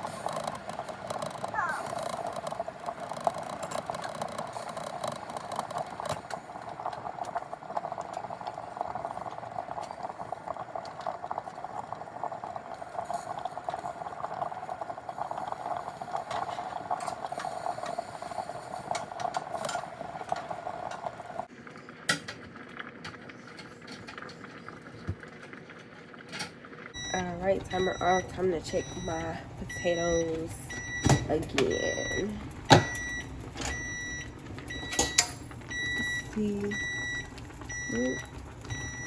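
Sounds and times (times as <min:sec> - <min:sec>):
water boiling in pots: 0:00.0 - 0:39.0.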